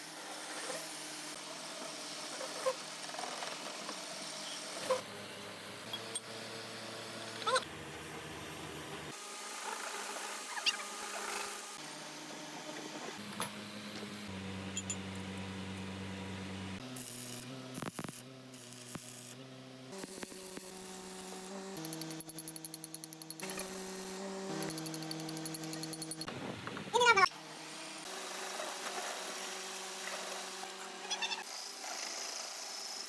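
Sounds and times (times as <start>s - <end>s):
metalworking power tool hum: 0.0s - 26.7s, 27.3s - 33.0s.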